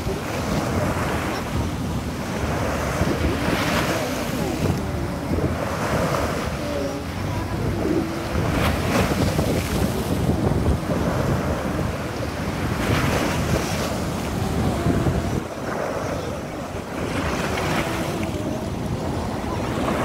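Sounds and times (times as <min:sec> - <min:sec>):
sea waves breaking on shore: 0:00.0 - 0:20.0
wind on microphone: 0:00.0 - 0:20.0.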